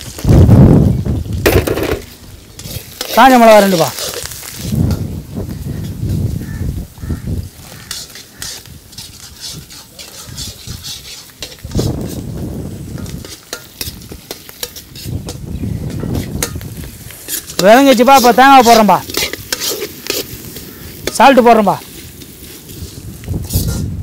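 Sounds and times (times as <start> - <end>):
spices sizzling in hot oil: 0.0 - 24.0
ladle scraping a pan: 1.5 - 5.0, 7.6 - 21.2, 21.8 - 24.0.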